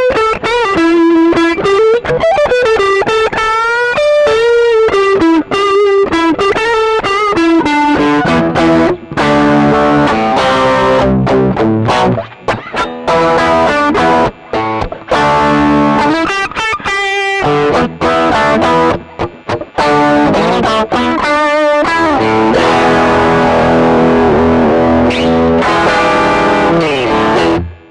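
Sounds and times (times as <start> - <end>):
electric guitar through amplifier: 0.0 - 27.9.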